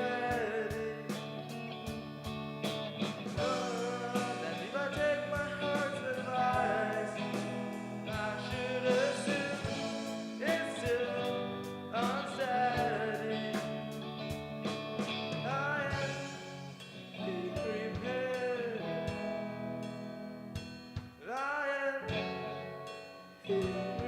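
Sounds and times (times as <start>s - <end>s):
person singing: 0.0s - 1.8s, 3.4s - 14.3s, 15.3s - 20.0s, 21.2s - 22.9s, 23.5s - 24.0s
steady drum beat: 0.0s - 19.5s
guitar: 0.0s - 24.0s.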